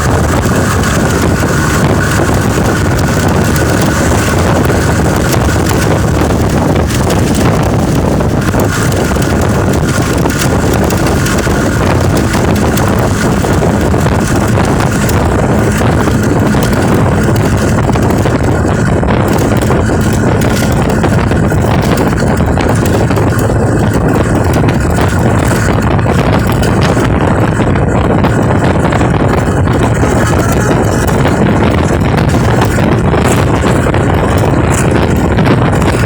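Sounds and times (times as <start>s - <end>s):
low rumble: 0.0s - 36.0s
wind buffeting microphone: 0.0s - 36.0s.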